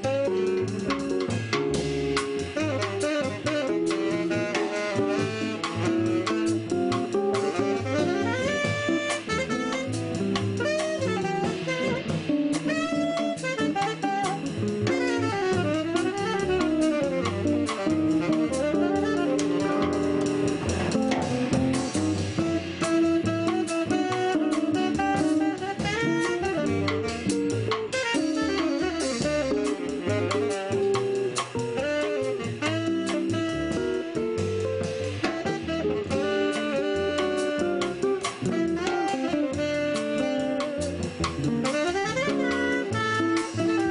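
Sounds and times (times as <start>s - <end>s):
archtop guitar: 0.0s - 43.9s
drum kit: 0.0s - 43.9s
saxophone lead: 0.0s - 43.9s
upright bass: 0.0s - 43.9s.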